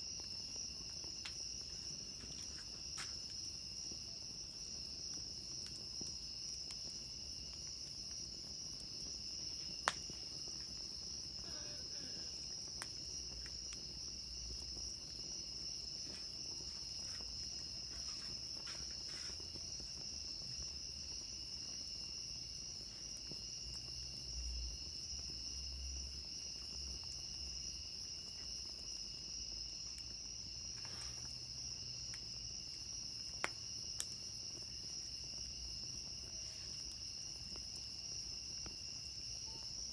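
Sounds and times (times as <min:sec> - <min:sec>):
campfire pops: 0:00.0 - 0:39.9
night insects trilling: 0:00.0 - 0:39.9.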